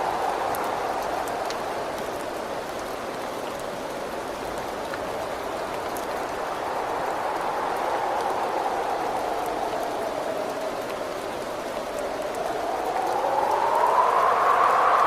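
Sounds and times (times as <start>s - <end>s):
whistling wind: 0.0s - 3.2s, 5.4s - 15.0s
steady rain: 0.0s - 15.0s.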